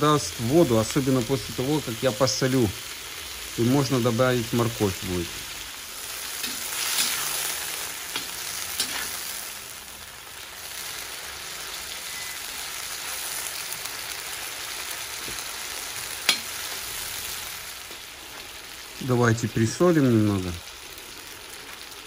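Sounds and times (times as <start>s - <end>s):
meat and onions sizzling: 0.0s - 22.0s.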